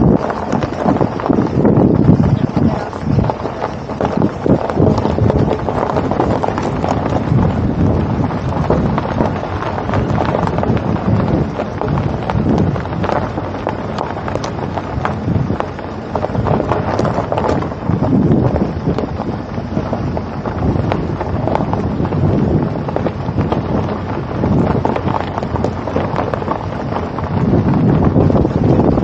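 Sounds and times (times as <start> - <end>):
short crackles: 0.0 - 29.0
wind buffeting microphone: 0.0 - 29.0.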